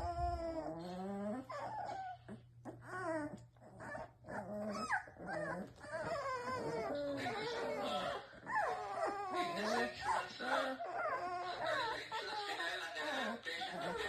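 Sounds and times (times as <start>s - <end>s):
puppies whimpering: 0.0s - 14.0s.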